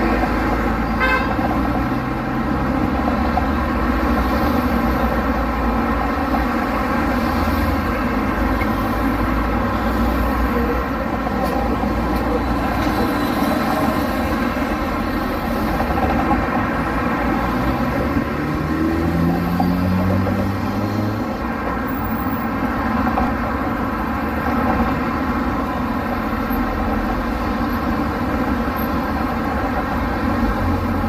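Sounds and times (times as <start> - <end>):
car engines in traffic: 0.0 - 31.0.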